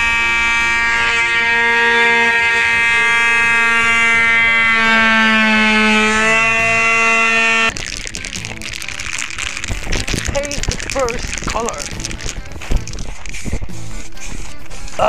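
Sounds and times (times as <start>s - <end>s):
electric grinder whining: 0.0s - 13.7s.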